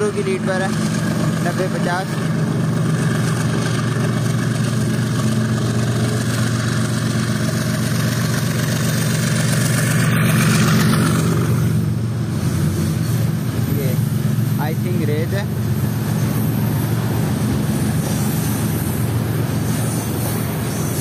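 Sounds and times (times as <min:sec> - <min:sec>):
freight locomotive engine humming: 0:00.0 - 0:21.0.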